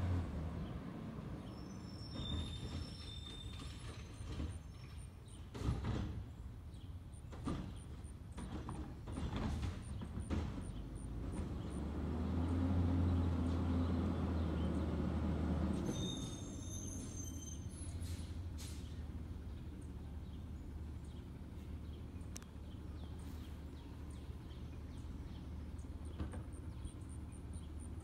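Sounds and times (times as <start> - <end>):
engine and hydraulic hum: 0.0 - 28.0.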